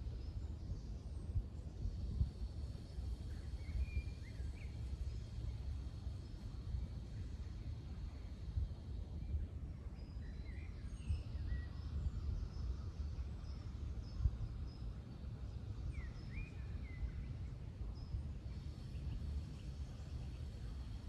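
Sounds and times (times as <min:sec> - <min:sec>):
faint birds chirping: 0:00.0 - 0:21.0
low outdoor rumble: 0:00.0 - 0:21.0.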